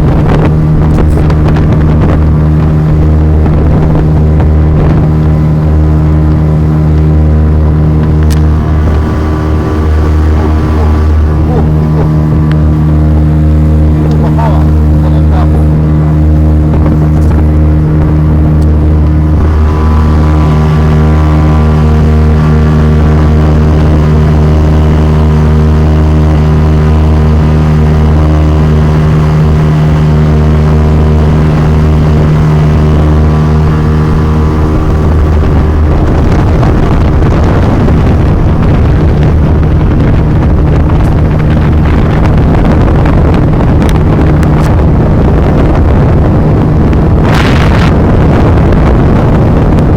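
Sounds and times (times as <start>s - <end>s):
motorboat engine running: 0.0s - 49.9s
wind rushing on microphone: 0.0s - 49.9s.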